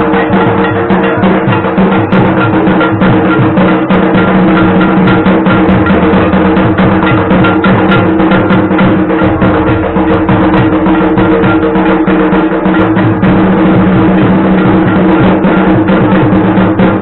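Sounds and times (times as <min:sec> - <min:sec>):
falling bass drum thumps: 0:00.0 - 0:17.0
loud fast drumming: 0:00.0 - 0:17.0.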